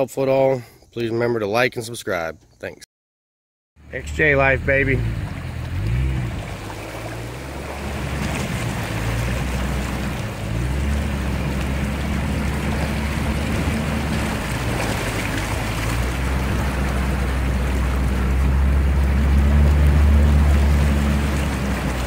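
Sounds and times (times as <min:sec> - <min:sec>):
car engine running: 0:03.8 - 0:22.0
water splashing against vehicle: 0:04.0 - 0:22.0.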